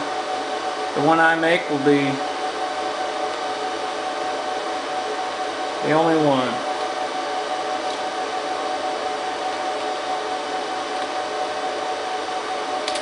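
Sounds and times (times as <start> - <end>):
server cooling fans whining: 0.0 - 13.0.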